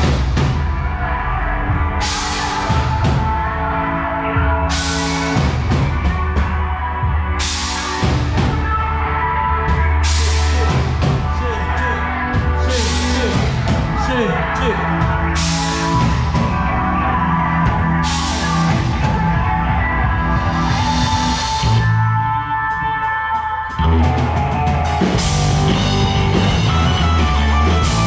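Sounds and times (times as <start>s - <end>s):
drum kit with cymbal crashes: 0.0s - 3.6s, 4.4s - 8.7s, 9.7s - 16.9s, 17.6s - 21.9s, 23.8s - 28.0s
bass guitar: 0.0s - 28.0s
electric guitar: 0.0s - 28.0s
keyboard: 0.0s - 28.0s.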